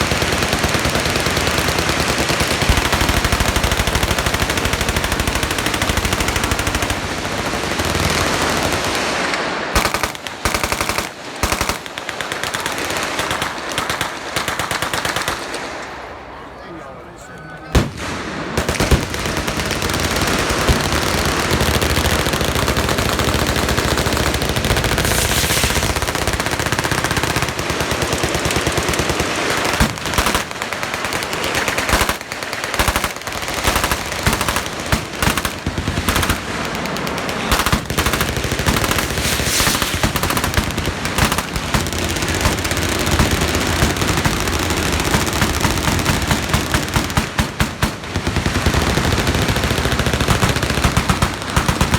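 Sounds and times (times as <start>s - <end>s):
machine-gun fire: 0.0s - 15.9s, 17.8s - 51.9s.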